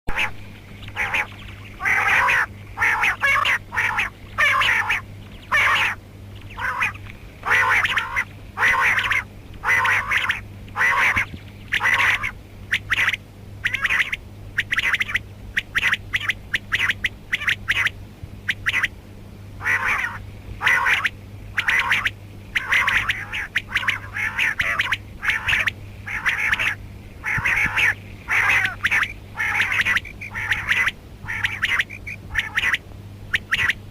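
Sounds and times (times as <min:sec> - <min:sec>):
quail calling: 0:00.1 - 0:19.0, 0:19.6 - 0:33.9
low electrical hum: 0:00.1 - 0:33.9.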